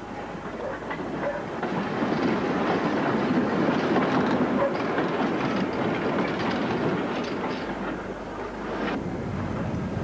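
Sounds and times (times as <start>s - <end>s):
train wheels clattering on rails: 0.2s - 10.0s.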